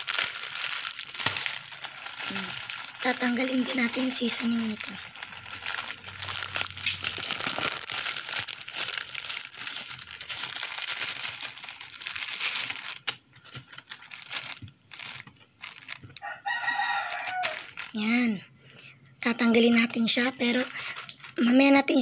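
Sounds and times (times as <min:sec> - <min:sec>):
plastic wrapper crinkling: 0:00.0 - 0:22.0.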